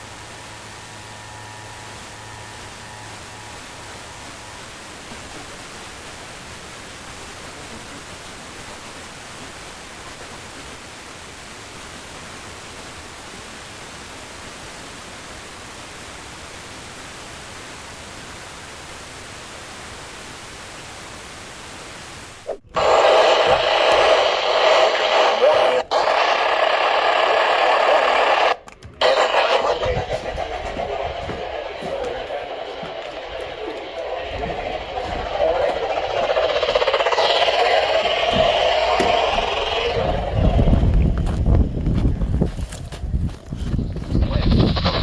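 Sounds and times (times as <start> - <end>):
radio static hiss: 0.0 - 45.0.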